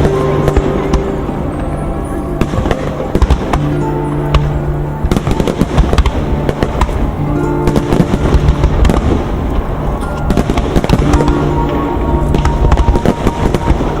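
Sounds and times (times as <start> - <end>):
fireworks bangs and crackles: 0.0 - 14.0
music with held notes: 0.0 - 14.0.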